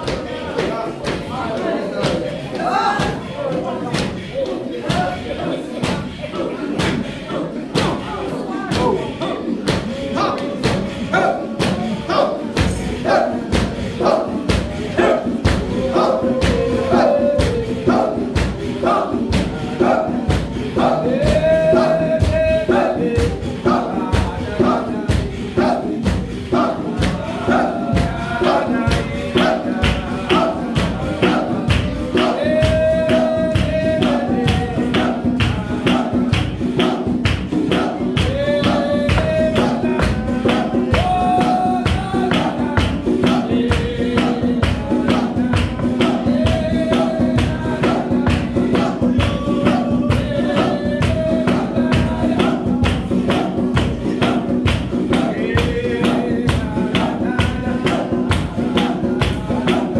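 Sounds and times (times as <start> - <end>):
fast percussion beat: 0.0 - 59.9
lively dance music: 0.0 - 59.9
voices singing: 0.0 - 59.9.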